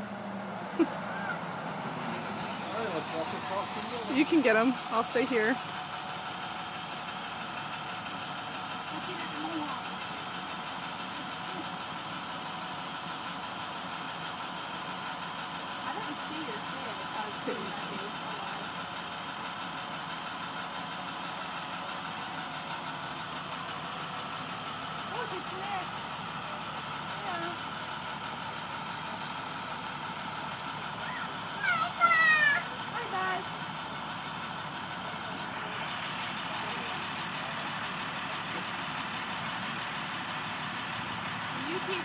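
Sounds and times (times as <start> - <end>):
bus engine idling: 0.0 - 42.0.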